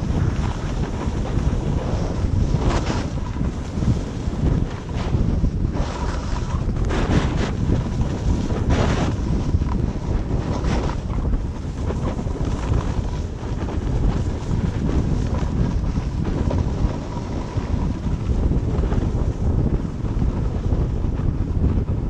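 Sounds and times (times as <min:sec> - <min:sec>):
skis scraping on snow: 0:00.0 - 0:22.0
wind buffeting microphone: 0:00.0 - 0:22.0.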